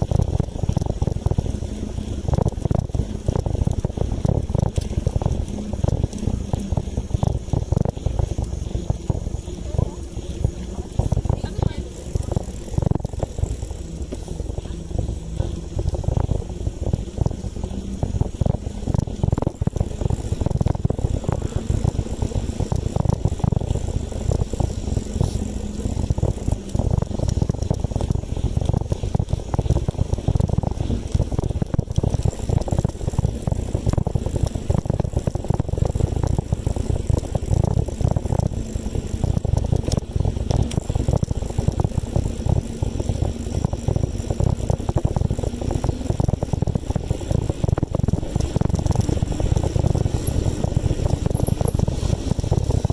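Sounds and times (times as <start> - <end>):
bicycle tyre and road noise: 0.0 - 52.9
wind buffeting microphone: 0.0 - 52.9.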